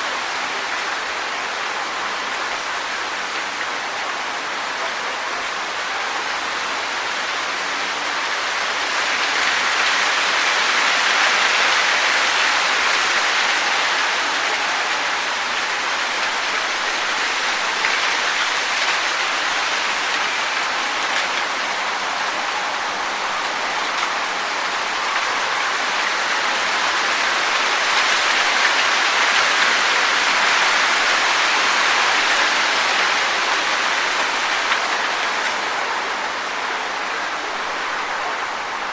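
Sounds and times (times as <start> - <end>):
wind rustling leaves: 0.0 - 38.9.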